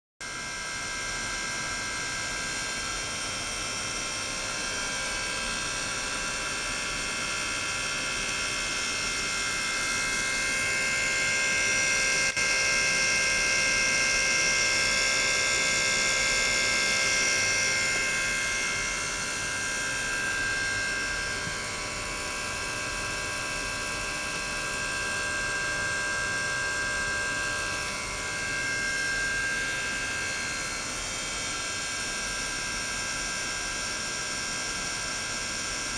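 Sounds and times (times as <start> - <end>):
high-pitched ultrasonic buzzing hum: 0.2 - 35.9.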